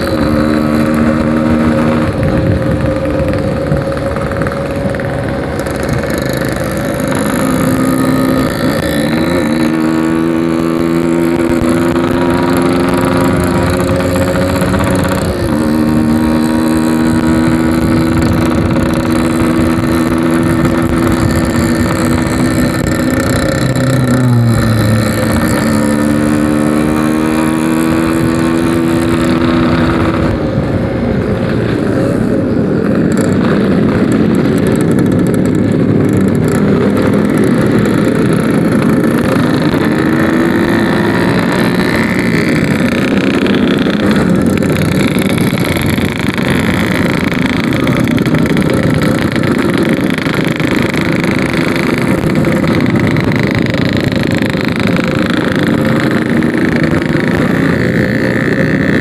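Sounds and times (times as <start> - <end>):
two-stroke motorcycle engine running: 0.0 - 59.0.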